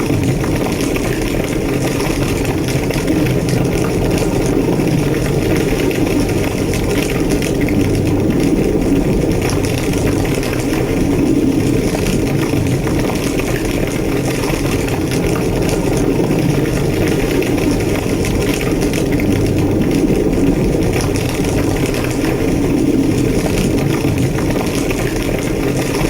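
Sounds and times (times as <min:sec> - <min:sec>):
fire crackling: 0:00.0 - 0:26.0
fire roaring: 0:00.0 - 0:26.0.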